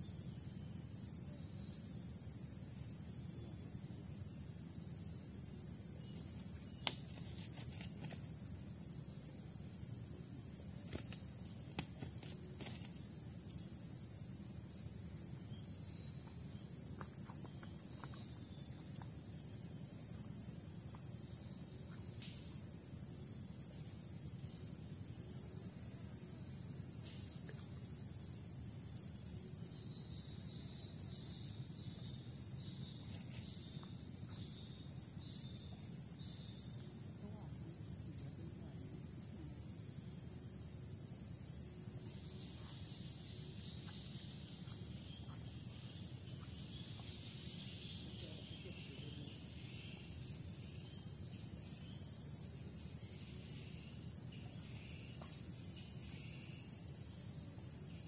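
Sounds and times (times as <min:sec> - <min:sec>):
insects buzzing shrilly: 0:00.0 - 0:58.0.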